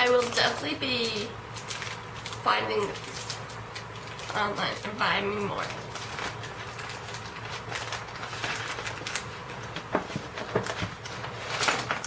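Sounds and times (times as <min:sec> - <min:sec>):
low steady hum: 0:00.0 - 0:12.0
packaging crinkling and rustling: 0:00.0 - 0:12.0.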